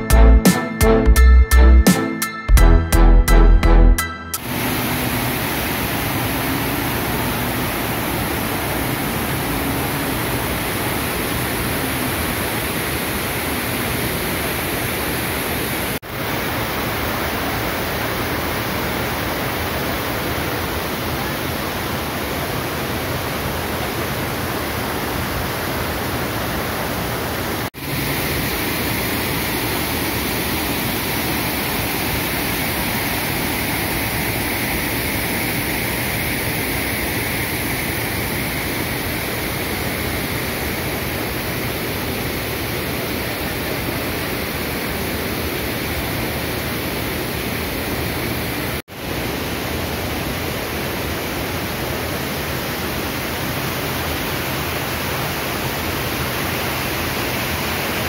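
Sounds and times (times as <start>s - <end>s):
waterfall rushing over rock: 4.4s - 58.0s.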